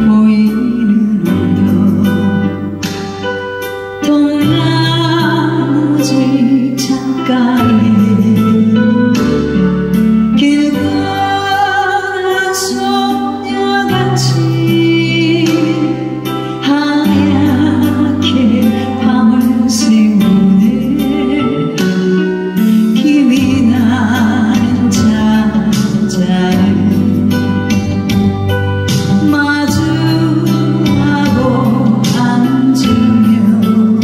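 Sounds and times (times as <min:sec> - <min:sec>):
woman singing into a microphone: 0:00.0 - 0:34.0.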